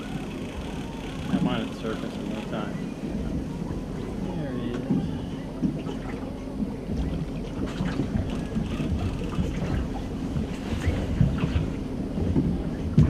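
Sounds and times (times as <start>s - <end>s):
water splashes: 0.0s - 13.0s
wind rumbling on microphone: 0.0s - 13.0s.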